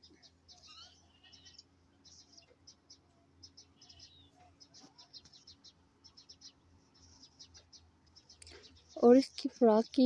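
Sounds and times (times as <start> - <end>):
birds chirping: 0.0 - 10.0
faint low hum: 0.0 - 10.0.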